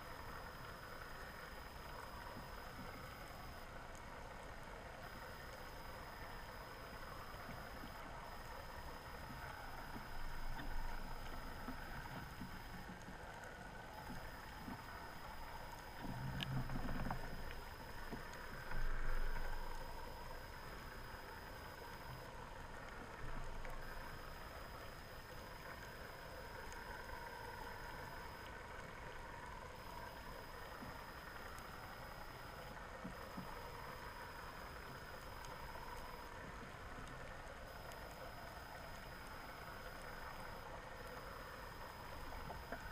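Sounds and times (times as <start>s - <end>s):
thin high whine: 0.0s - 3.7s, 5.0s - 12.9s, 14.0s - 22.4s, 23.7s - 28.6s, 29.8s - 36.4s, 37.7s - 42.9s.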